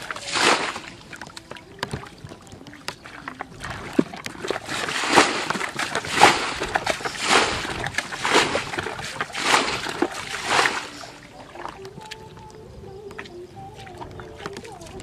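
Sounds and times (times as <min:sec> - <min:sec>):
water splashing as flung: 0:00.0 - 0:12.2.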